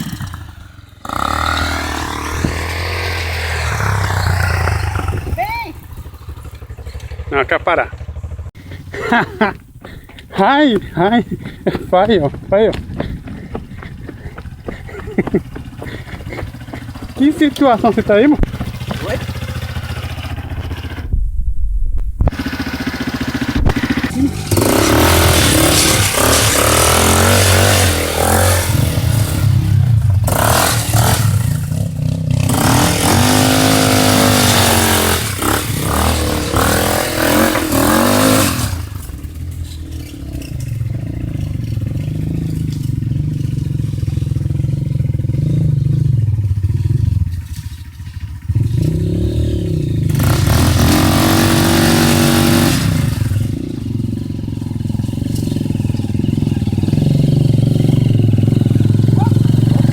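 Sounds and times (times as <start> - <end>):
atv engine revving: 0.0 - 21.1, 22.2 - 59.9.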